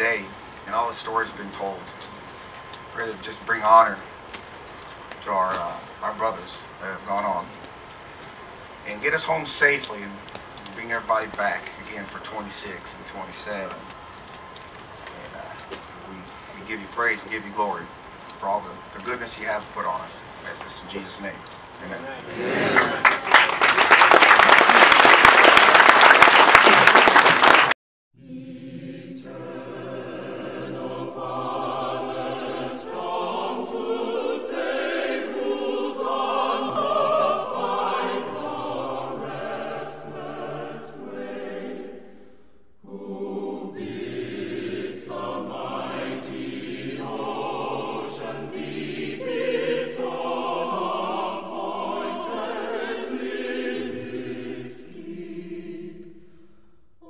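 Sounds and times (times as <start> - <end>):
choir singing held notes: 0.0 - 13.9, 15.0 - 23.8, 28.2 - 56.7.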